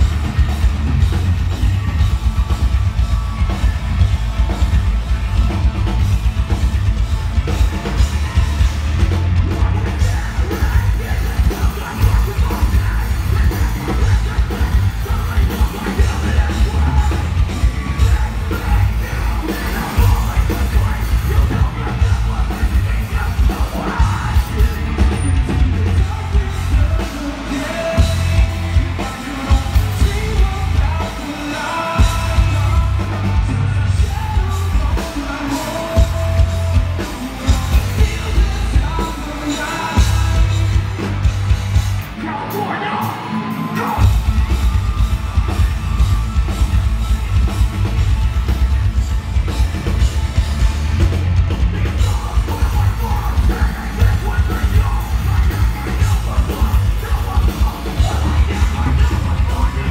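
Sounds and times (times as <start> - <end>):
heavy drums: 0.0 - 59.9
live metalcore band playing: 0.0 - 59.9
yelled vocals: 0.0 - 59.9.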